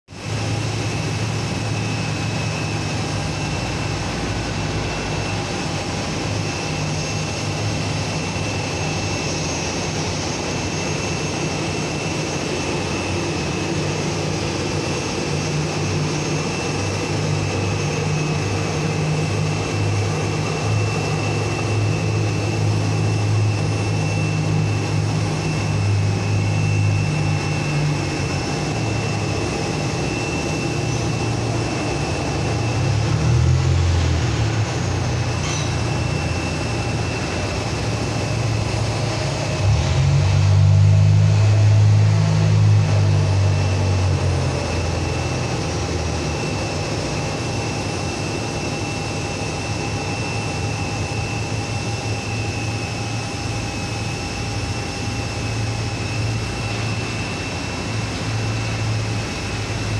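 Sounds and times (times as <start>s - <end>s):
jet engines whining: 0.1s - 59.9s.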